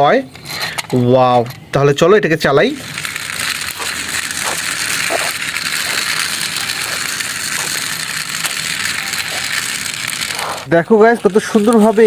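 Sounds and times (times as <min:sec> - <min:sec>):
toy gears ratcheting whir: 0:00.2 - 0:12.0.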